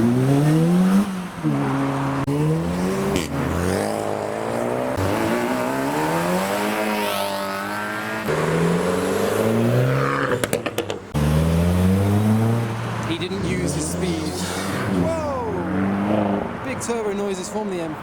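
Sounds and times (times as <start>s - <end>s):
car engines accelerating: 0.0s - 18.0s.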